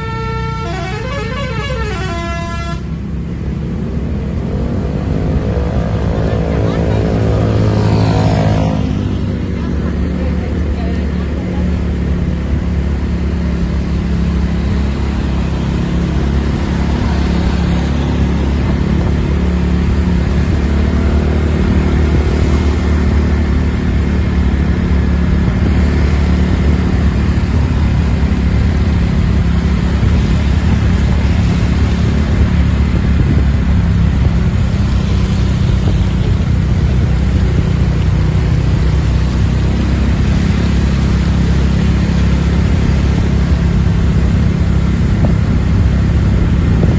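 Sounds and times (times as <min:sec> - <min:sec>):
bus diesel engine droning: 0:00.0 - 0:08.0, 0:08.8 - 0:46.9.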